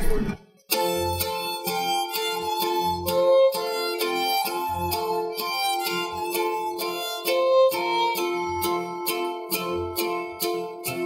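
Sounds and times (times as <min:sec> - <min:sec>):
violin melody: 0:00.7 - 0:11.0.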